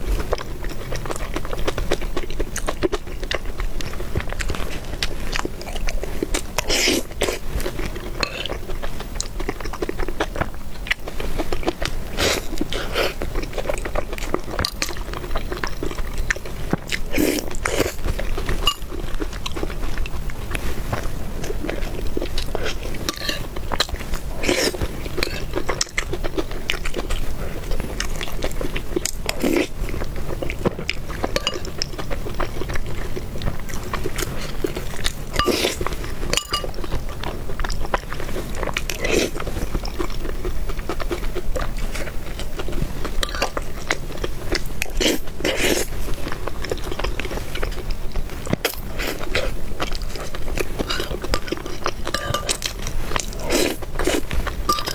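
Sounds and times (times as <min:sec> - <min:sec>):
person chewing wet food: 0:00.0 - 0:54.9.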